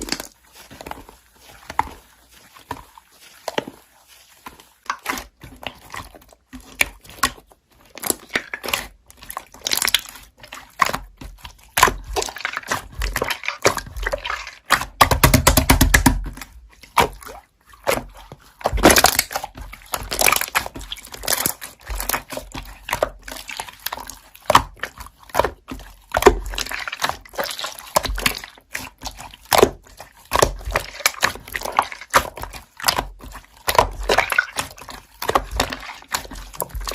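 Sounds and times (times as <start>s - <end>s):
slime squishing with wet clicks: 0.0s - 36.9s.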